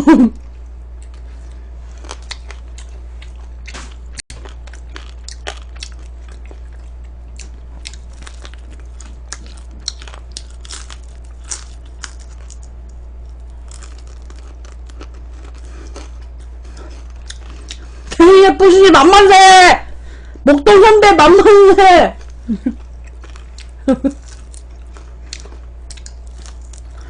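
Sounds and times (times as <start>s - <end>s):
steady low hum: 0.0s - 27.0s
chewing crispy fried chicken: 0.5s - 18.2s, 22.2s - 27.0s.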